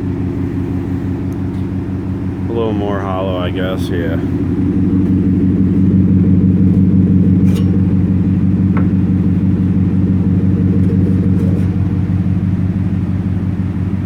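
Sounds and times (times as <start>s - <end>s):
engine idling deep rumble: 0.0s - 14.0s.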